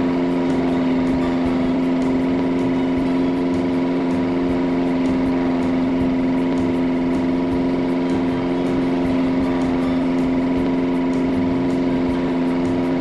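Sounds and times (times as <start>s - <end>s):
ceiling fan motor hum: 0.0s - 13.0s
faint fan ticking: 0.0s - 13.0s.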